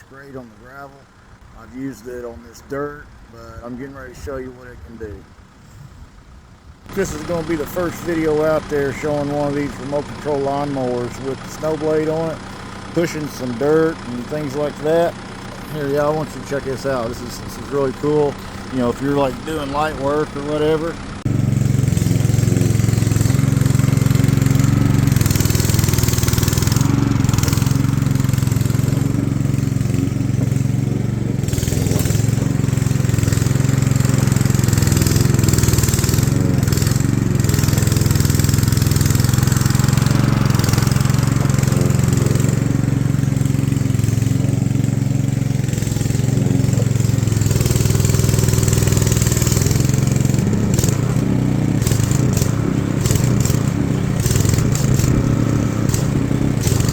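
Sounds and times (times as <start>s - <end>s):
lawnmower engine running: 0.0s - 56.9s.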